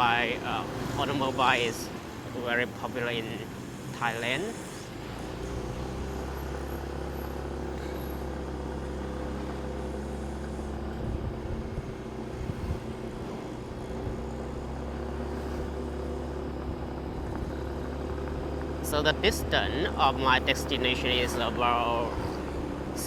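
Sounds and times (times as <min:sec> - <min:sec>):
motorcycle engine running: 0:00.0 - 0:23.0
road and traffic noise: 0:00.0 - 0:23.0.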